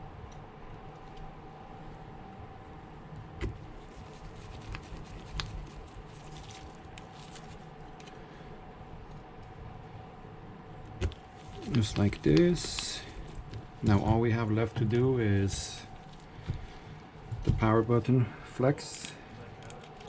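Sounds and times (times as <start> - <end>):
steady faint hum: 0.0 - 20.0.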